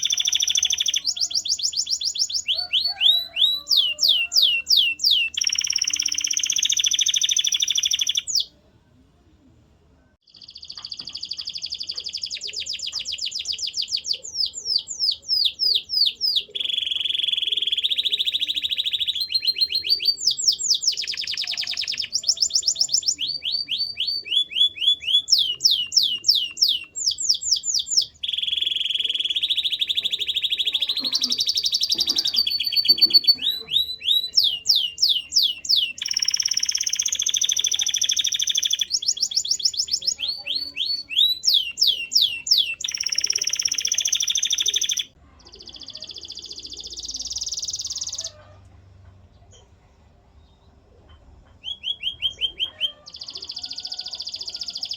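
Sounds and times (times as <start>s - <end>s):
canary singing: 0.0s - 8.5s, 10.3s - 48.6s, 51.5s - 54.9s.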